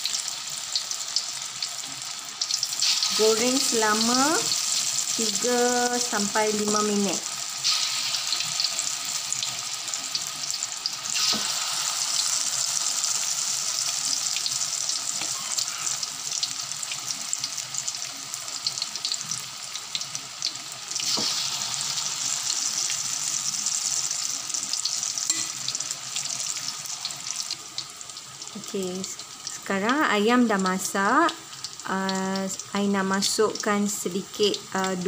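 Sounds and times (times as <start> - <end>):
chicken deep-frying in hot oil: 0.0 - 35.0.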